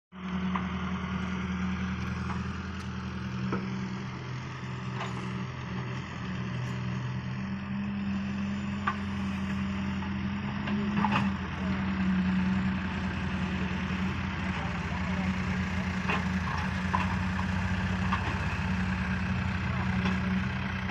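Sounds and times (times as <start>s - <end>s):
excavator diesel engine: 0.1s - 20.9s.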